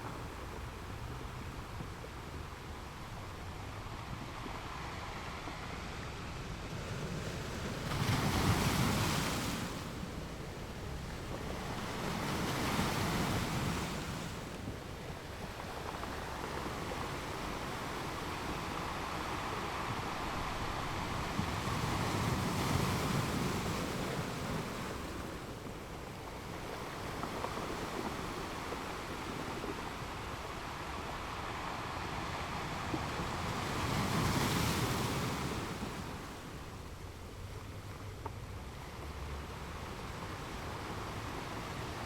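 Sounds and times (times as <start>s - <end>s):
waves washing onto beach: 0.0s - 42.0s.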